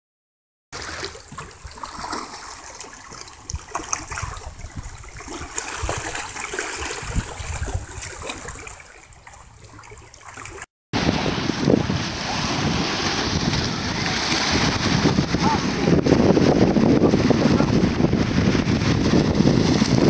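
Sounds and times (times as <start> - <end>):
rushing splashing water: 0.7 - 20.0.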